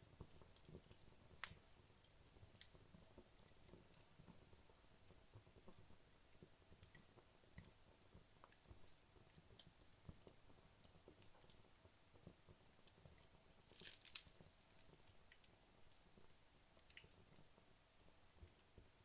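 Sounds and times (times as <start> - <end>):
wood crackling in fireplace: 0.0 - 19.0.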